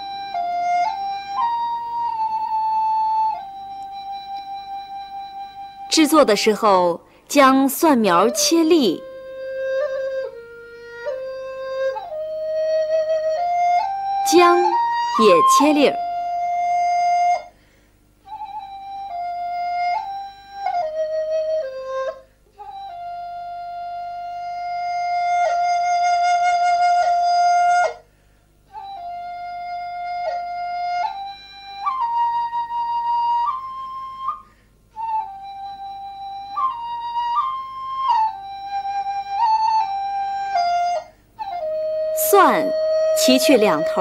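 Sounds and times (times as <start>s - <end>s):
solo flute slow melody: 0.0s - 17.6s, 18.2s - 28.1s, 28.7s - 44.0s.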